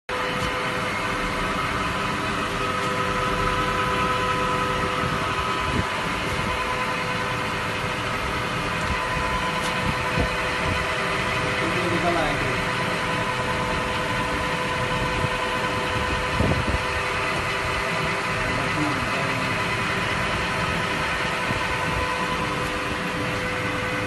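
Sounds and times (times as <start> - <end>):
lathe machine hum and whine: 0.1 - 24.0.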